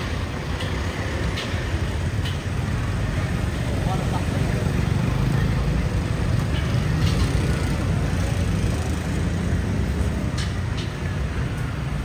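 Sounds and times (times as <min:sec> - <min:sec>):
traffic rumble: 0:00.0 - 0:12.0
tuk-tuk passing: 0:00.0 - 0:12.0.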